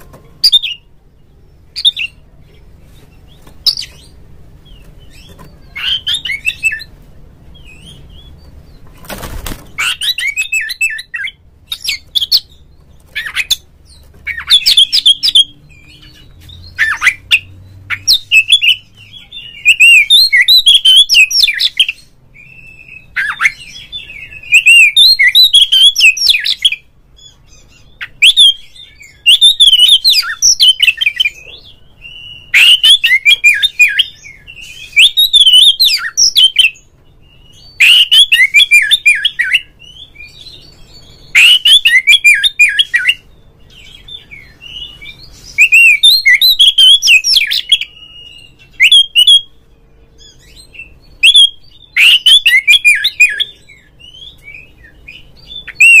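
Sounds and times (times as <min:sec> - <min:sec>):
magpie-robin singing: 0:00.0 - 0:56.0
soft bird chirps: 0:00.0 - 0:56.0.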